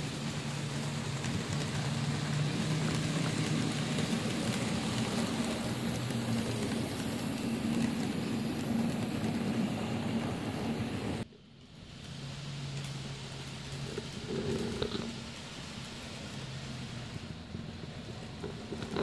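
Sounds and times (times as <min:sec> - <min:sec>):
model train motor hum: 0:00.0 - 0:11.2, 0:12.6 - 0:19.0
wheels rolling on track: 0:00.0 - 0:19.0.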